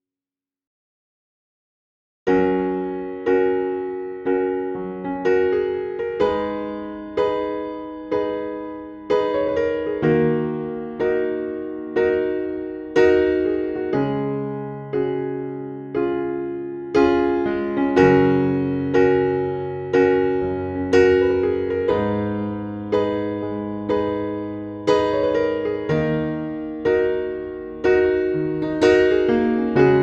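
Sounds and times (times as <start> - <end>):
electric piano playing gentle chords: 2.3 - 30.0.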